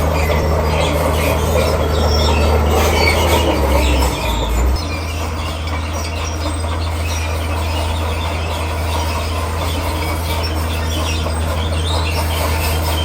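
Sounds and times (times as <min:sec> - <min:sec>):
bulldozer diesel engine: 0:00.0 - 0:13.0
steel tracks clicking and squealing: 0:00.0 - 0:13.0.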